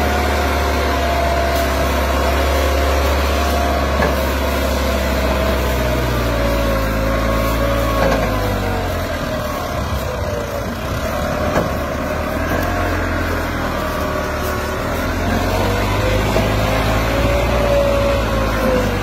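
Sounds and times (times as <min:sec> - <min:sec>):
tractor engine labouring: 0:00.0 - 0:19.0.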